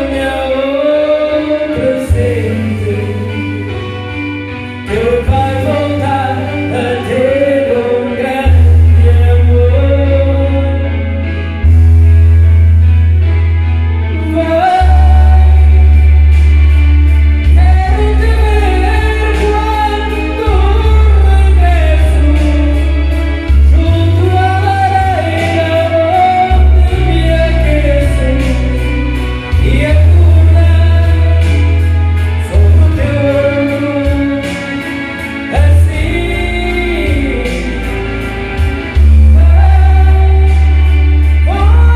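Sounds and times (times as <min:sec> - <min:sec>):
backing track with loud bass: 0:00.0 - 0:41.9
person singing karaoke: 0:00.0 - 0:41.9.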